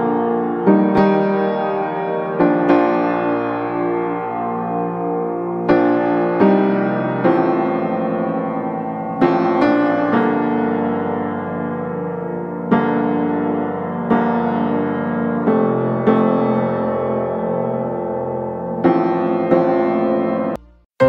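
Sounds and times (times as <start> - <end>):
slow keyboard chords: 0.0 - 21.0.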